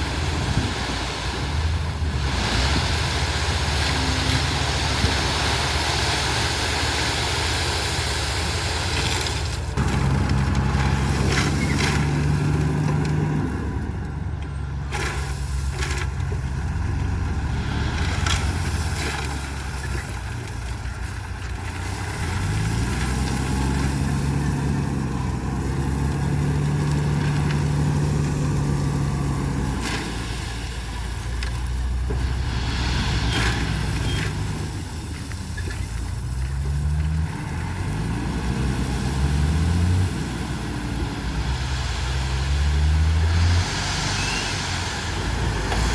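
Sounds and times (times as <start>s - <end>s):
diesel earthmoving machine engine: 0.0s - 45.9s.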